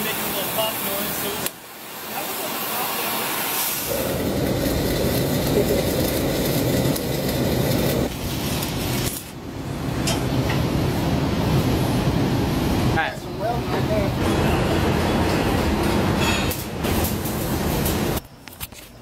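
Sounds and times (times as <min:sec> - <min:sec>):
welding arc crackling: 0:00.0 - 0:13.0, 0:14.0 - 0:18.2.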